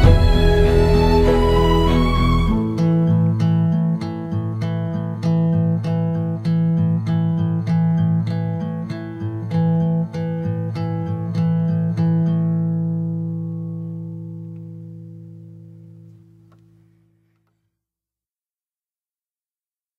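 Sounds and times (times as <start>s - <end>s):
acoustic guitar strumming chords: 0.0s - 16.4s.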